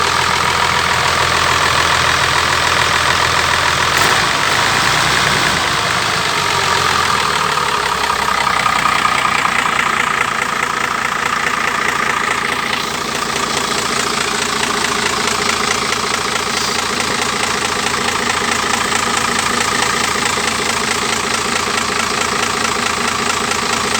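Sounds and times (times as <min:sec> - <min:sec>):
diesel engine clattering: 0:00.0 - 0:23.9.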